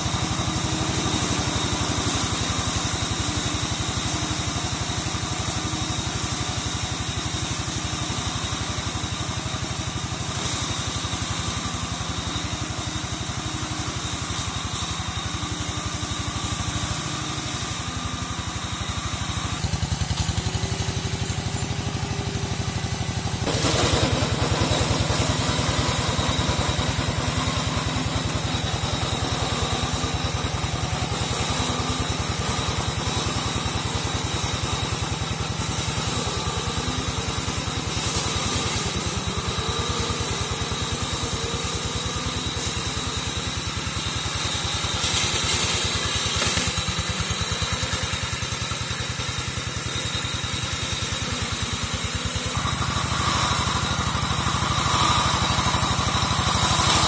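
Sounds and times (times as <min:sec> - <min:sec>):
brush-cutting mower engine running: 0:00.0 - 0:57.0.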